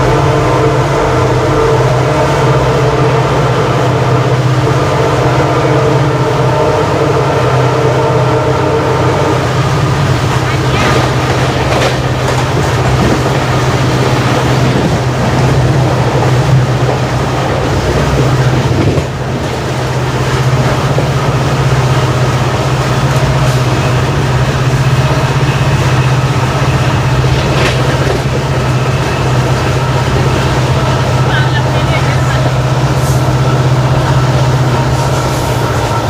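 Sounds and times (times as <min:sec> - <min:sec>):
diesel locomotive engine hum: 0:00.0 - 0:36.0
train coaches rolling: 0:00.0 - 0:36.0.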